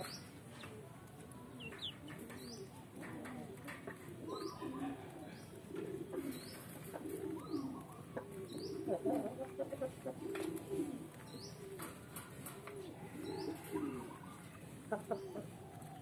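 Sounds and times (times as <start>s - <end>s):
low wavering bird coos: 1.5s - 16.0s.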